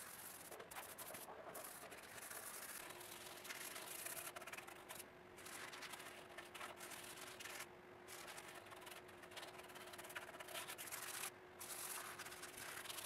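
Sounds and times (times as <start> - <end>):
paintbrush scrubbing wood: 0.0 - 7.6, 8.2 - 13.0.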